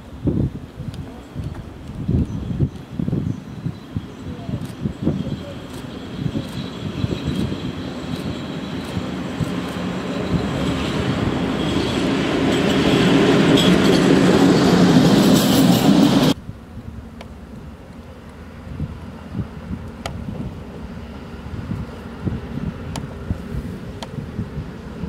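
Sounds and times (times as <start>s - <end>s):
locomotive rail and wheel noise: 0.0s - 25.0s.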